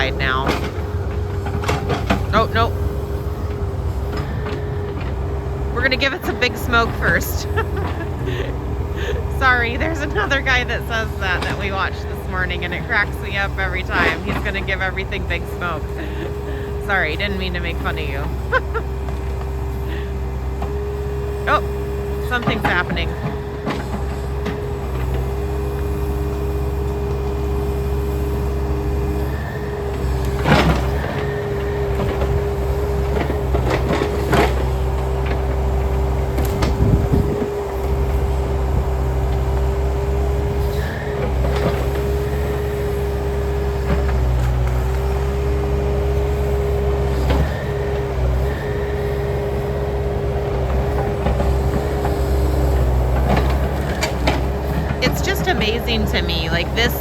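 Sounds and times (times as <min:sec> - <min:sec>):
excavator diesel engine under load: 0:00.0 - 0:57.0
hydraulic whine: 0:00.0 - 0:57.0.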